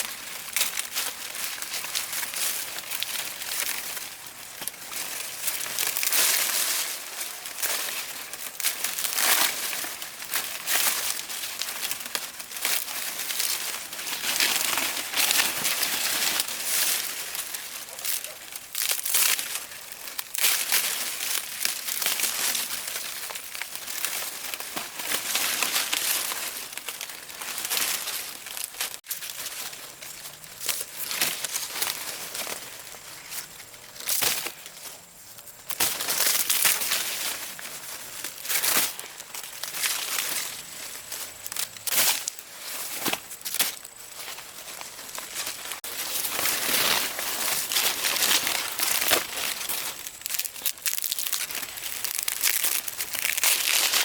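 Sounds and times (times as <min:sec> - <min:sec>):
dry crinkling and rustling: 0:00.0 - 0:54.0.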